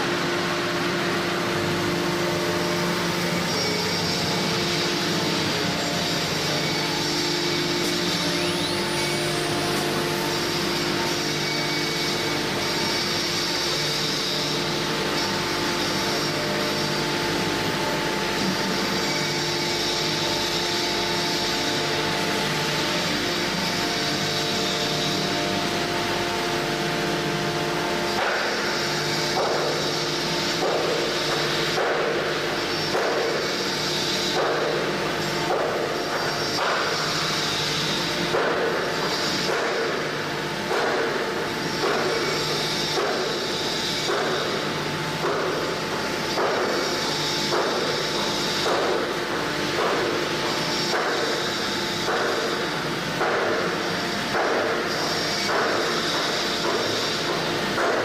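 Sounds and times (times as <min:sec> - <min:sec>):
cnc router whine: 0:00.0 - 0:58.0.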